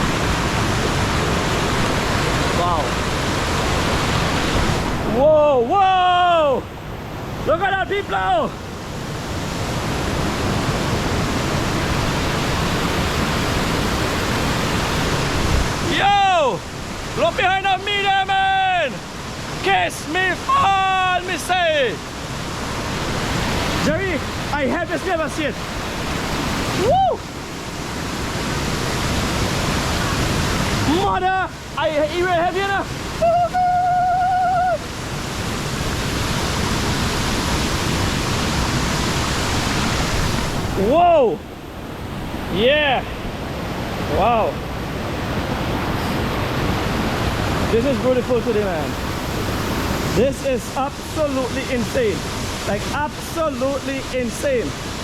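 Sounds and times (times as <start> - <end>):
waterfall in heavy flow: 0.0 - 55.0.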